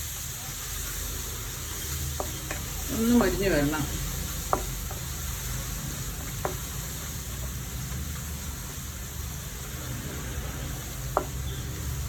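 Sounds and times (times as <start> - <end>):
garlic sizzling in oil: 0.0 - 12.0.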